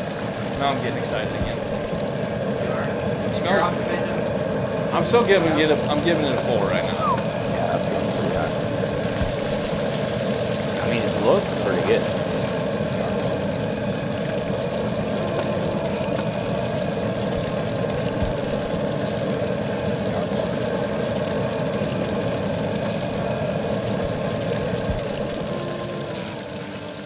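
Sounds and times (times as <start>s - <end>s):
fish deep-frying in hot oil: 0.0s - 27.0s.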